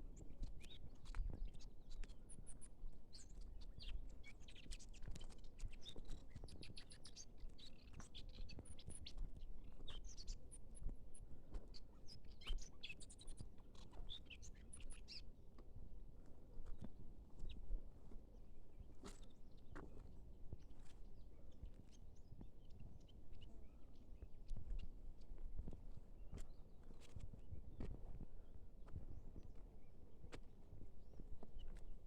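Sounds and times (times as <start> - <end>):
small birds chirping: 0.0 - 15.3, 16.7 - 31.9.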